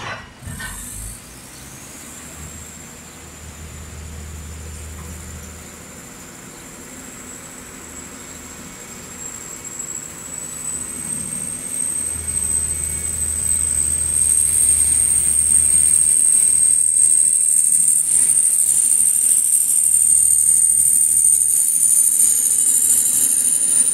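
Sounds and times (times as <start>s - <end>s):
diesel generator engine hum: 0.0s - 23.9s
generator high-pitched whine: 0.0s - 23.9s.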